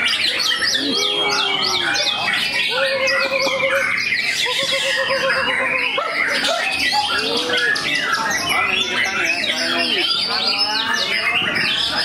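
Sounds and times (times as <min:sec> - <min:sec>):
low pulsed bird trills: 0:00.0 - 0:12.0.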